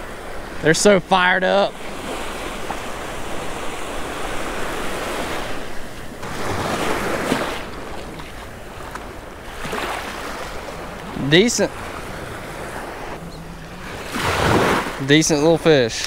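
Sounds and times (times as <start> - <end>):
small waves washing ashore: 0.0 - 16.0
wind on microphone: 1.7 - 15.0.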